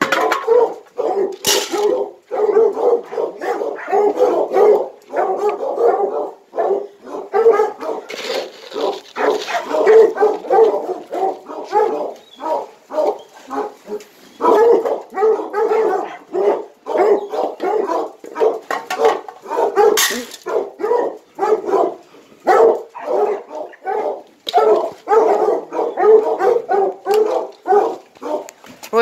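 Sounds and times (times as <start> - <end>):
dogs barking: 0.0 - 28.6.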